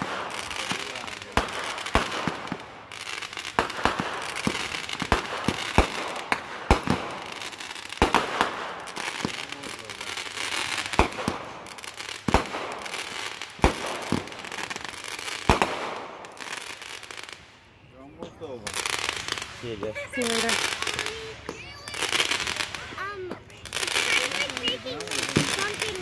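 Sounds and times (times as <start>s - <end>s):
fireworks bangs: 0.0s - 26.0s
fireworks crackling and hiss: 0.0s - 26.0s.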